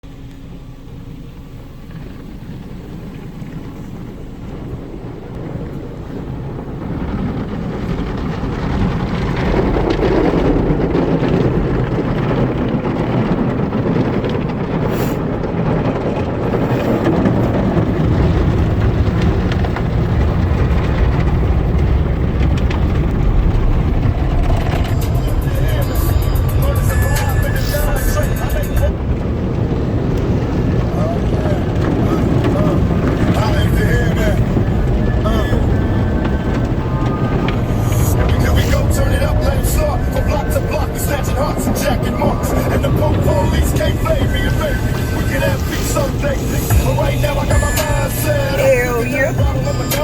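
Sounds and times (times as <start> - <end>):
automatic car wash rushing: 0.0 - 50.0.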